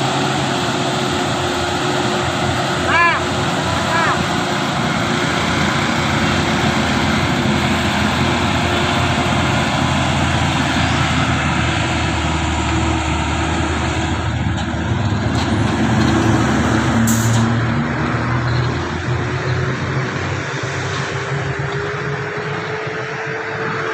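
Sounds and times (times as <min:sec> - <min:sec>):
road noise: 0:00.0 - 0:23.9
truck engine running: 0:00.0 - 0:23.9.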